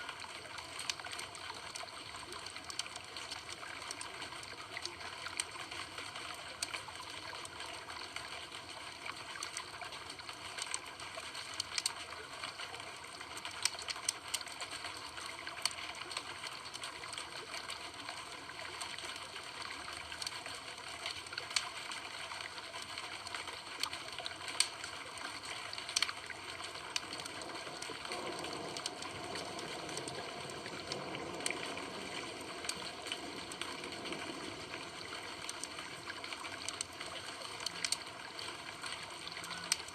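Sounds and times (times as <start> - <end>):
campfire hissing and crackling: 0.0 - 39.9.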